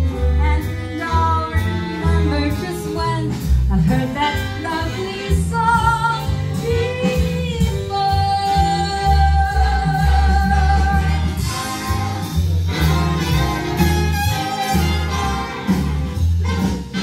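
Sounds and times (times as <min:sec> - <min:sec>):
heavy bass line: 0:00.0 - 0:17.0.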